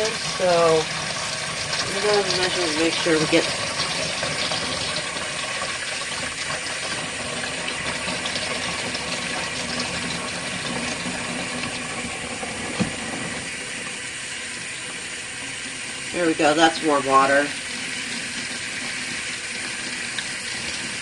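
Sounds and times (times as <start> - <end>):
water running from a faucet: 0.0 - 21.0.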